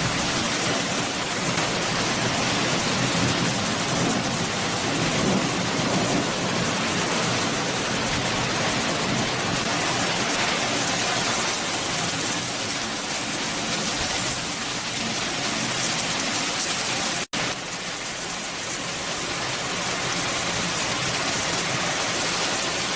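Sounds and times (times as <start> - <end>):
rush of falling water: 0.0 - 22.9.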